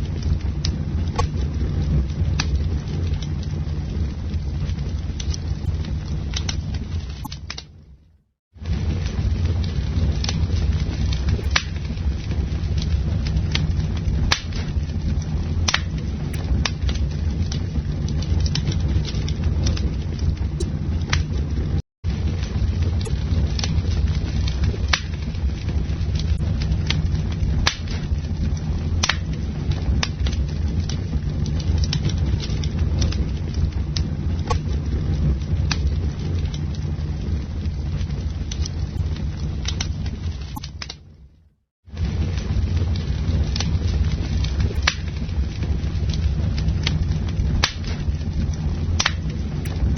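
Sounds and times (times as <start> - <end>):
bonfire roaring: 0.0 - 49.9
burning wood crackling and popping: 0.0 - 49.9
campfire flames rumbling: 0.0 - 49.9.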